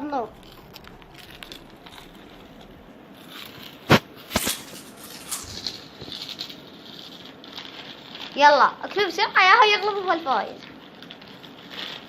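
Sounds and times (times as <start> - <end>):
crisp packets crinkling: 0.2 - 8.5, 10.4 - 12.0.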